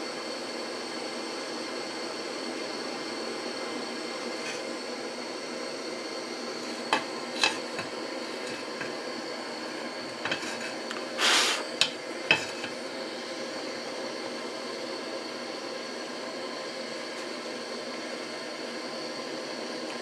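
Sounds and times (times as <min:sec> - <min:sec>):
steady gas hiss: 0:00.0 - 0:19.9.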